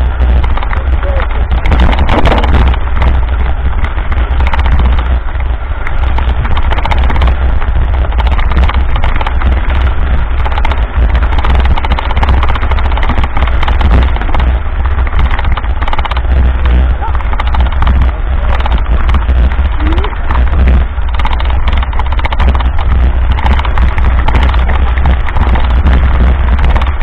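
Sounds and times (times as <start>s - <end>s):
bike rattling on rough dirt road: 0.0s - 27.0s
wind buffeting microphone: 0.0s - 27.0s.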